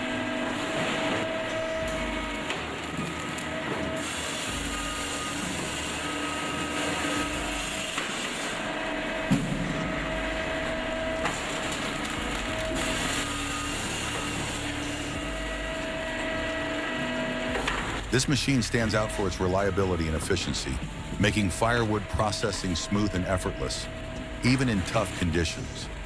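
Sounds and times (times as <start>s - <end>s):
machine drone: 0.0s - 26.0s.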